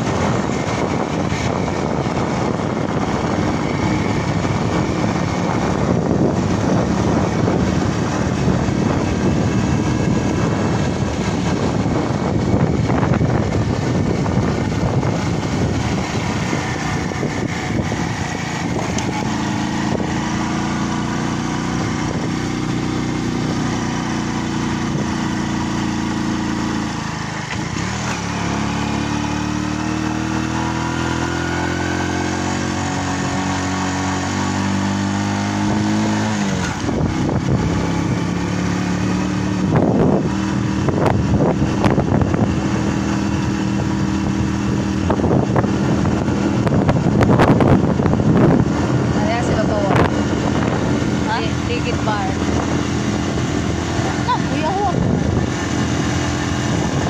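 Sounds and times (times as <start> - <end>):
vehicle engine accelerating: 0.0 - 57.0
wind buffeting microphone: 0.0 - 57.0.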